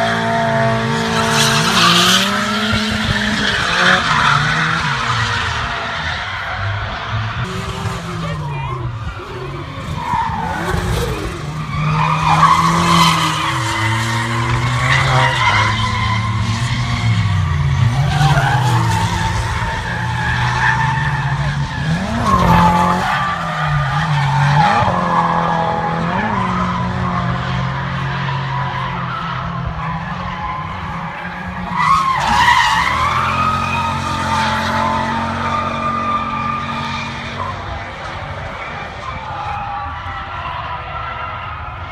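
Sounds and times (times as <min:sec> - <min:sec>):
car engines revving: 0:00.0 - 0:41.9
tyres skidding and screeching: 0:00.0 - 0:41.9.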